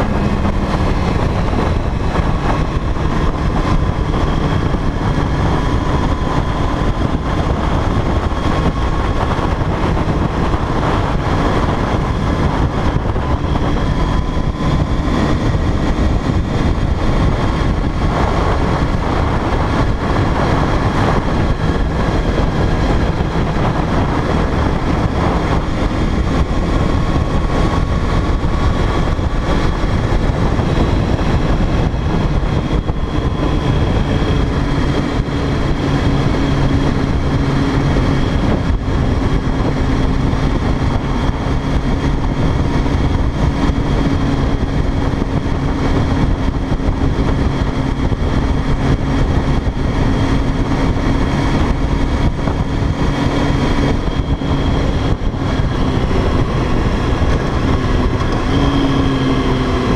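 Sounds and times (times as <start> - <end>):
motorcycle engine cruising: 0.0 - 59.9
wind rushing over microphone: 0.0 - 59.9.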